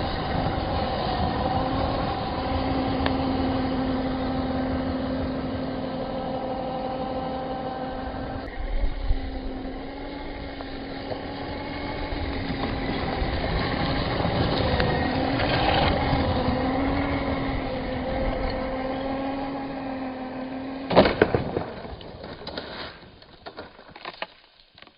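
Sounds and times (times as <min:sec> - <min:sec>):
electric motor whining: 0:00.0 - 0:21.3.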